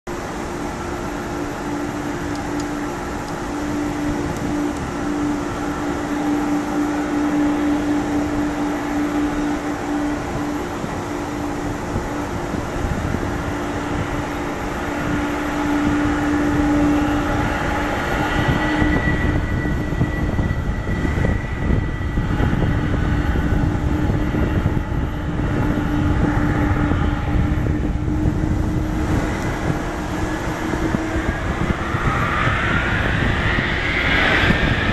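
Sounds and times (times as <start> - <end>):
jet engine whine: 0.0 - 34.9
low engine rumble: 0.0 - 34.9.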